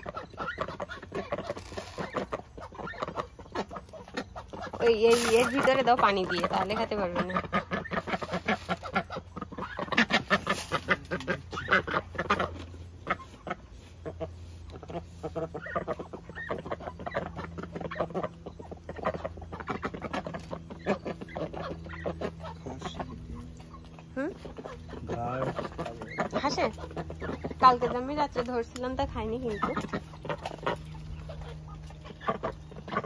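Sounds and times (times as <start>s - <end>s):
chickens clucking: 0.0s - 33.0s
ducks quacking: 0.0s - 33.0s
steady low hum: 0.0s - 33.0s.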